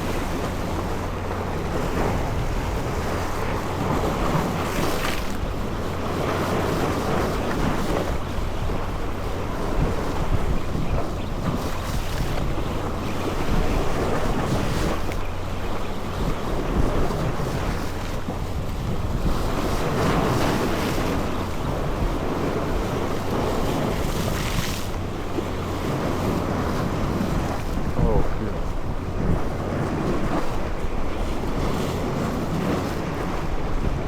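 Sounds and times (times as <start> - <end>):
sea water washing around boat: 0.0 - 34.0
wind buffeting microphone: 0.0 - 34.0.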